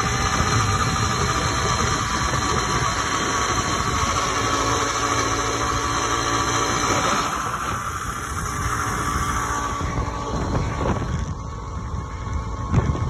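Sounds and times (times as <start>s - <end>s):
two-stroke bicycle engine running: 0.0s - 13.0s.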